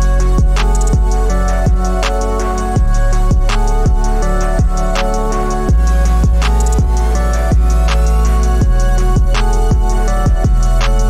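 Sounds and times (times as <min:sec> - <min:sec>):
electronic kick drum: 0:00.0 - 0:11.0
held synth chords: 0:00.0 - 0:11.0
high ticking: 0:00.0 - 0:11.0.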